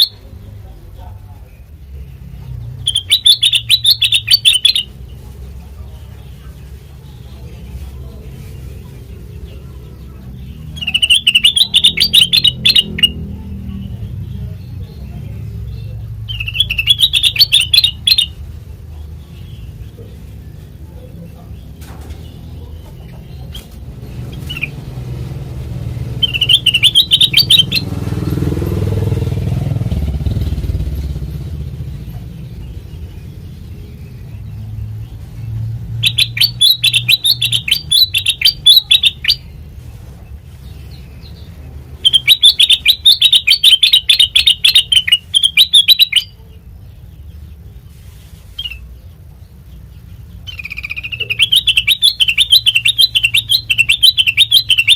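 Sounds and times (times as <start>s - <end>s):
bird chattering song: 0.0s - 54.9s.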